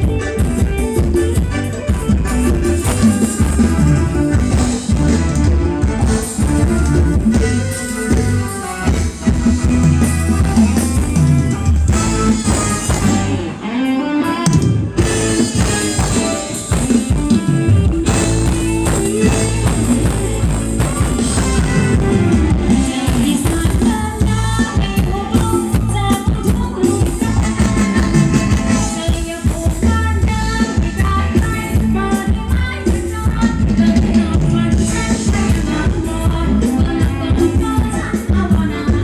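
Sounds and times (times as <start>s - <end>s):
live band dance music: 0.0s - 39.0s.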